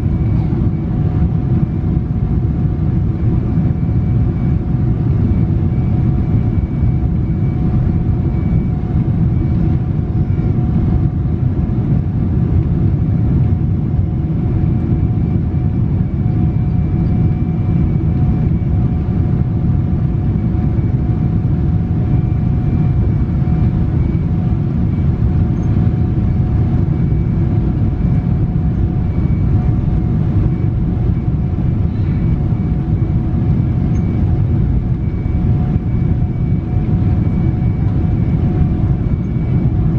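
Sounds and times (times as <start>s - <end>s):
aircraft engines rumbling: 0.0s - 39.9s
faint steady whines: 0.0s - 39.9s.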